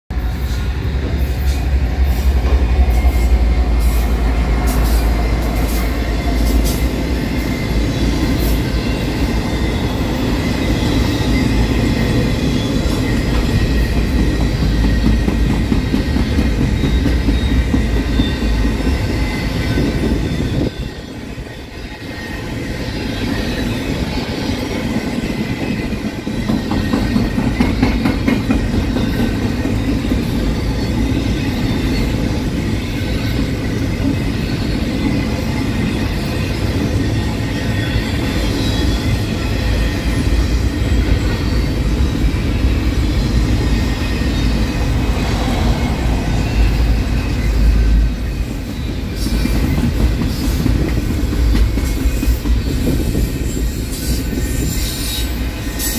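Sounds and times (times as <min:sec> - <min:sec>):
high wheel squeal: 0:00.1 - 0:55.9
train wheels rumbling on rail: 0:00.1 - 0:55.9.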